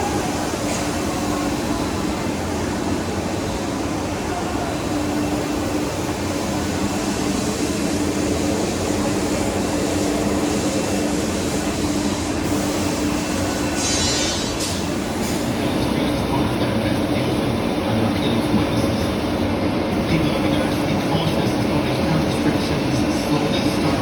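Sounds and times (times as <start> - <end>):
workshop machinery hum and hiss: 0.0 - 24.0.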